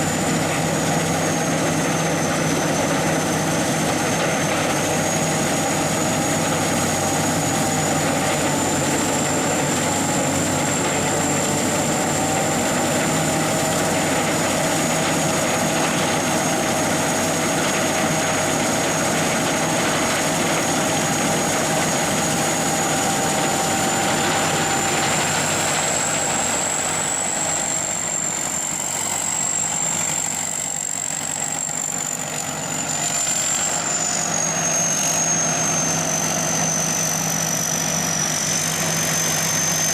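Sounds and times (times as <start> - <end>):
combine harvester whining: 0.0 - 39.9.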